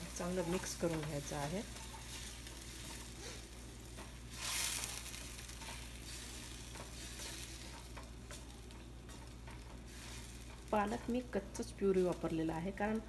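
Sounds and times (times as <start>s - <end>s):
puree sizzling in hot oil: 0.0s - 13.0s.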